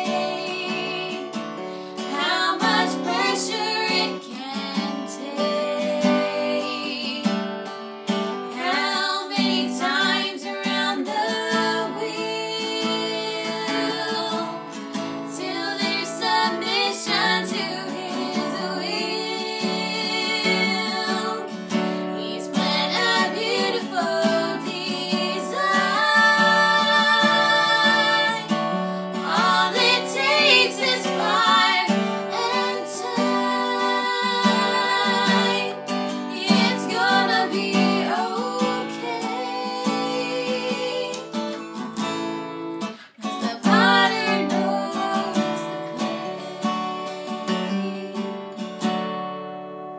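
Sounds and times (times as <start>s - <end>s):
women singing with vibrato: 0.0s - 7.4s, 8.5s - 41.8s, 43.0s - 48.5s
acoustic guitar: 0.0s - 49.9s.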